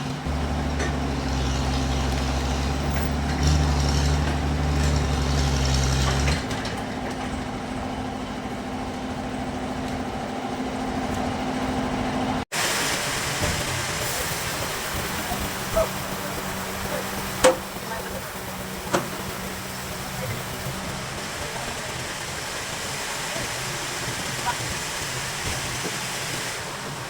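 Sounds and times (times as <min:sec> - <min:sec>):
deep engine-like drone: 0:00.0 - 0:12.4, 0:13.4 - 0:24.6
sawmill machinery humming: 0:00.0 - 0:27.0.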